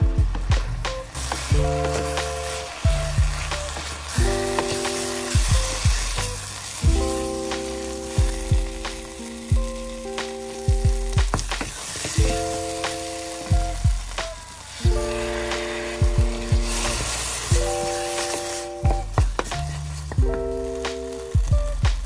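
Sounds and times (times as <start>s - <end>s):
background music with drum beat: 0.0s - 22.0s
food sizzling in a pan: 1.1s - 21.4s.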